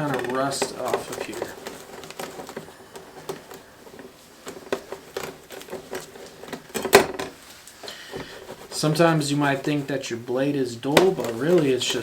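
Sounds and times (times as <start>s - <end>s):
scrubbing pad scratching saw blade: 0.0s - 6.7s, 7.8s - 12.0s.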